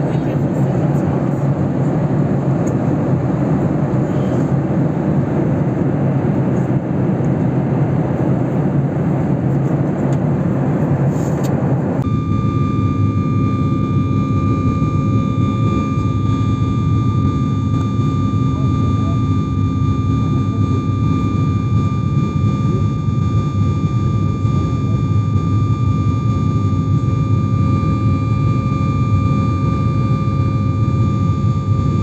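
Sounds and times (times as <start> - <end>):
jet engine roar: 0.0 - 32.0
steady whining tones: 0.0 - 32.0.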